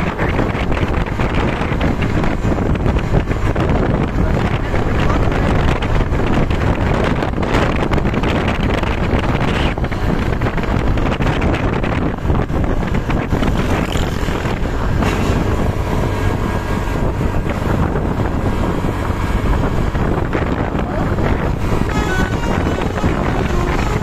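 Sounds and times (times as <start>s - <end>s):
bus engine: 0.0s - 24.0s
low rumble of road traffic: 0.0s - 24.0s
wind buffeting microphone: 0.0s - 24.0s.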